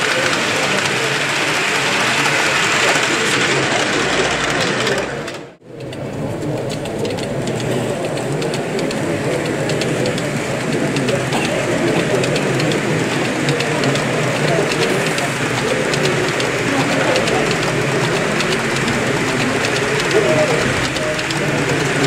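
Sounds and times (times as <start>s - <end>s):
model trains whirring and clattering: 0.0s - 22.0s
wheels ticking over rails: 0.0s - 22.0s.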